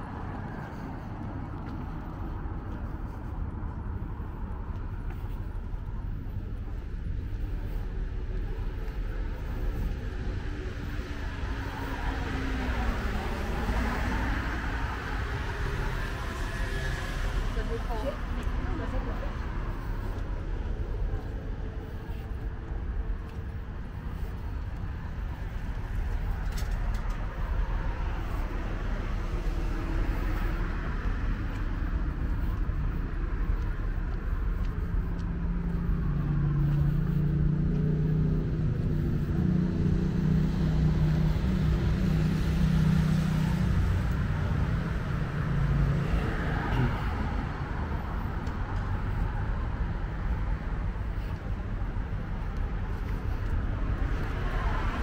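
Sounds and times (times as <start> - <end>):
cars passing: 0.0 - 55.0
vehicle engine humming: 0.0 - 55.0.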